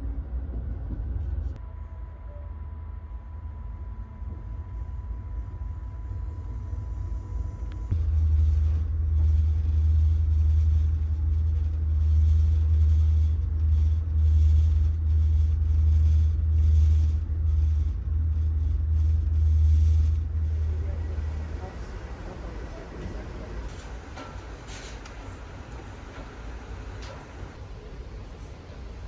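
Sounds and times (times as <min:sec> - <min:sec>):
passenger train rumbling on rails: 0:00.0 - 0:16.5, 0:17.2 - 0:29.0.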